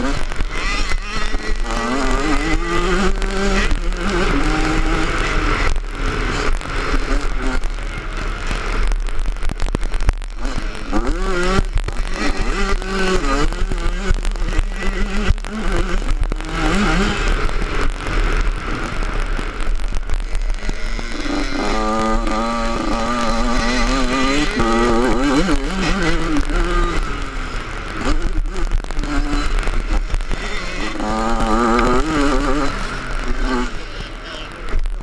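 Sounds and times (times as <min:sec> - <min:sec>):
two-stroke motorcycle engine revving: 0:00.0 - 0:35.0.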